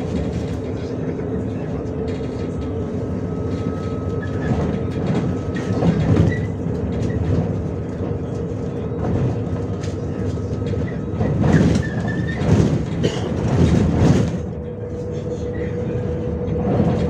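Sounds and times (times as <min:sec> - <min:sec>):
bus body rattling and creaking: 0:00.0 - 0:17.0
bus engine drone: 0:00.0 - 0:17.0.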